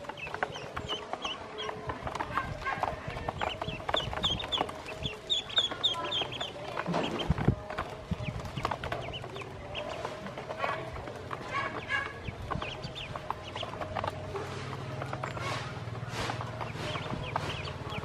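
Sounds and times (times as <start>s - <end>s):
ducklings pecking on plastic: 0.0s - 18.0s
ducklings peeping: 0.0s - 18.0s.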